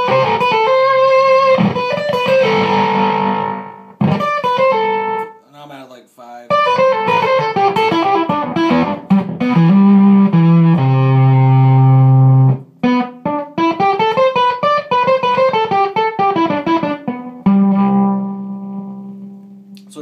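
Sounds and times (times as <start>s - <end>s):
fuzz electric guitar: 0.0s - 5.3s, 6.5s - 19.7s.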